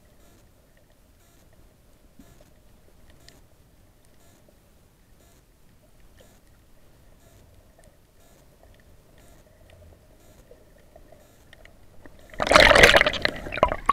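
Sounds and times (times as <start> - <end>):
soft underwater clicks and crackles: 0.0 - 13.9.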